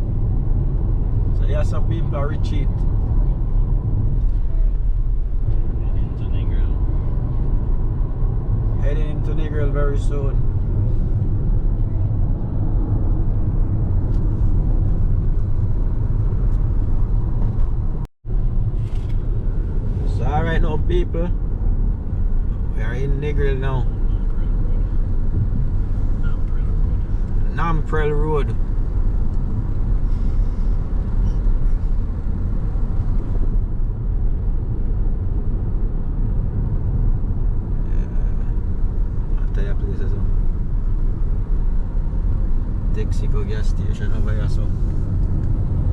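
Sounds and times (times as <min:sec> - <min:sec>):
car driving on road: 0:00.0 - 0:45.9
vehicle interior rumble: 0:00.0 - 0:45.9.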